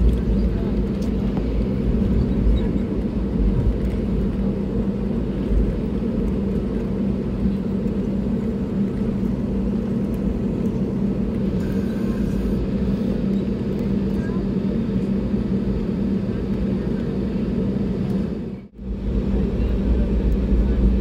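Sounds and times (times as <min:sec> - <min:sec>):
aircraft engines running: 0:00.0 - 0:21.0.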